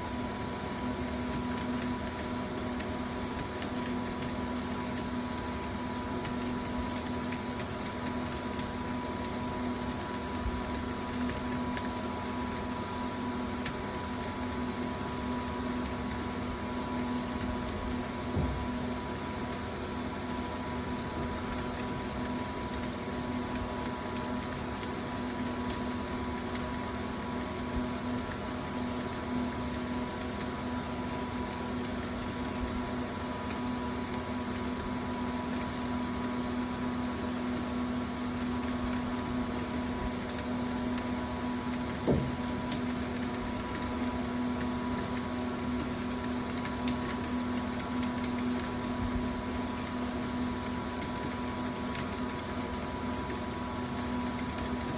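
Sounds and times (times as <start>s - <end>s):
steady background hum: 0.0s - 54.9s.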